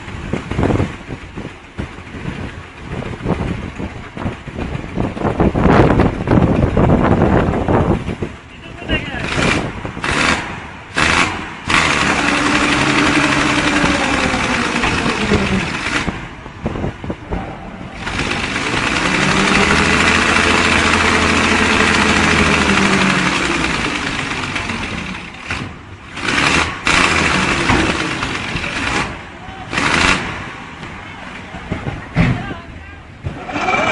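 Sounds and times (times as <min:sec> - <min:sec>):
loud rushing noise: 0:00.0 - 0:32.2
engine running: 0:00.0 - 0:33.9.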